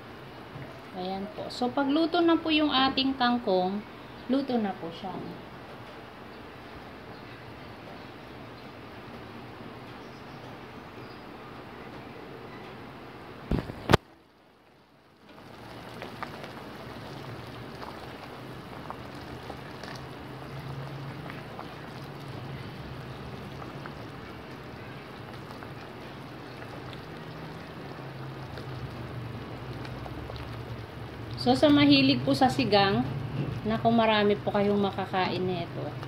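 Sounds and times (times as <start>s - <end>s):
broth boiling in a pot: 0.0s - 36.0s
low steady hum: 0.0s - 36.0s.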